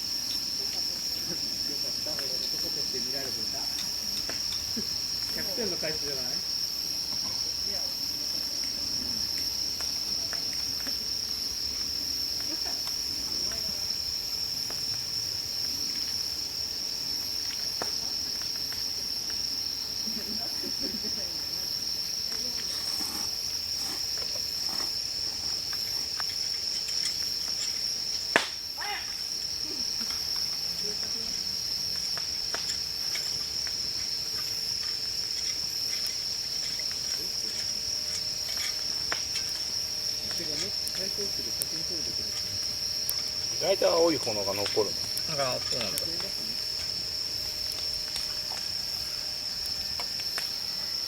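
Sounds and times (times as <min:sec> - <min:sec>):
faint fire crackling: 0:00.0 - 0:51.0
fire popping: 0:00.0 - 0:51.0
night insects trilling: 0:00.0 - 0:51.0.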